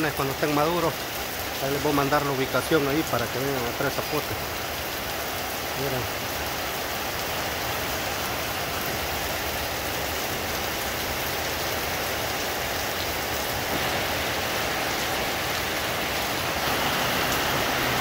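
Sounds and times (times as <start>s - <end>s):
heavy rain on trees: 0.0s - 18.0s.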